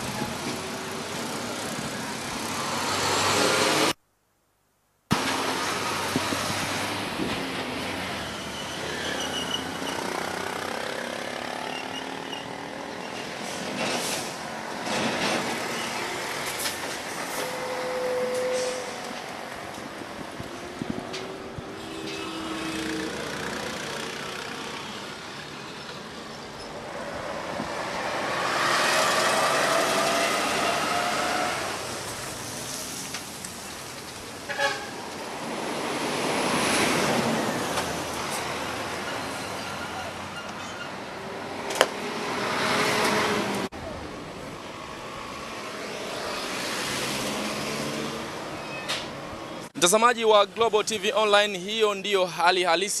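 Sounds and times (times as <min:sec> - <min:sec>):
vehicles passing: 0:00.0 - 0:04.0, 0:05.1 - 0:53.0.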